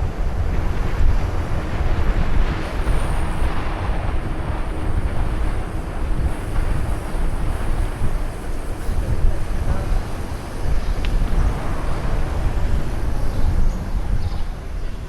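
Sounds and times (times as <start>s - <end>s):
faint seaside and street background: 0.0s - 15.0s
wind buffeting microphone: 0.0s - 15.0s.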